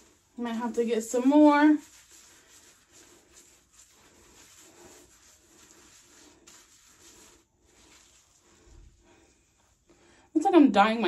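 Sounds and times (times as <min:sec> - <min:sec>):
hands squishing shampoo in hair: 0:00.0 - 0:09.8.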